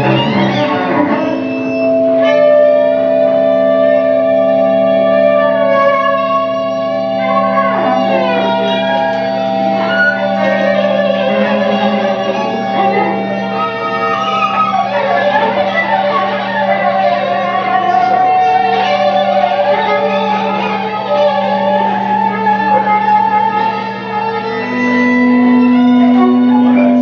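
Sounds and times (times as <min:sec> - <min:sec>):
string trio held tones: 0:00.0 - 0:27.0.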